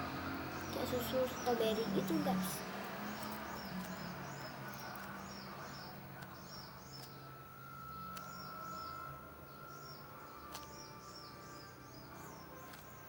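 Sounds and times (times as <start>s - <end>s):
low steady hum: 0.0s - 13.0s
small bird chirping: 0.0s - 13.0s.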